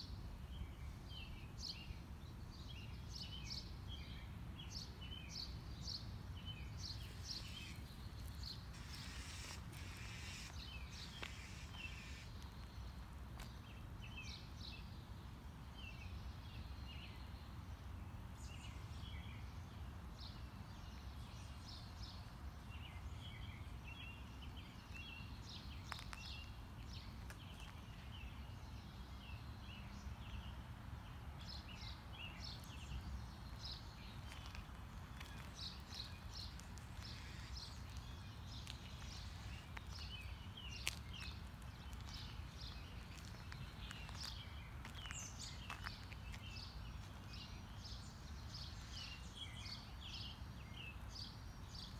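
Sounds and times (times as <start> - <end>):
songbirds chirping and singing: 0.5 - 15.0, 18.4 - 51.9.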